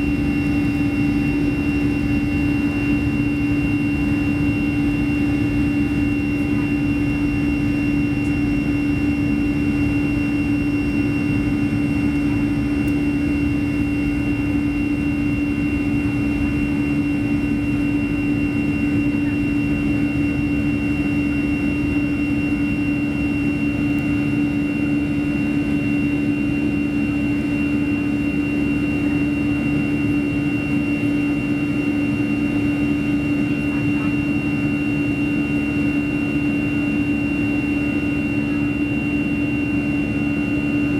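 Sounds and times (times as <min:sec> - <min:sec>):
jet engines droning in cabin: 0:00.0 - 0:40.9.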